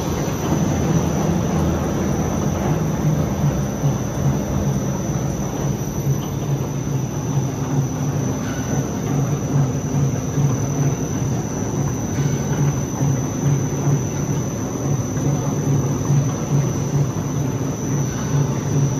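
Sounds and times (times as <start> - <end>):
high steady whine: 0.0 - 18.9
printing machine hum: 0.0 - 18.9.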